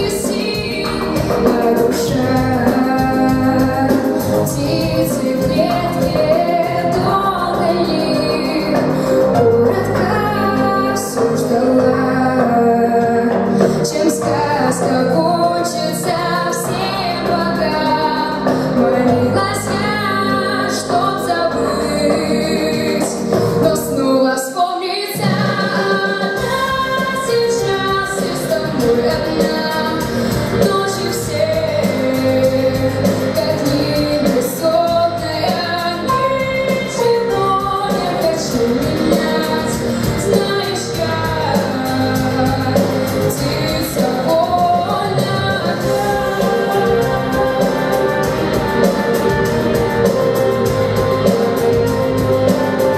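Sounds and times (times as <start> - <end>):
musical accompaniment with beat: 0.0 - 52.9
woman singing: 0.0 - 52.9.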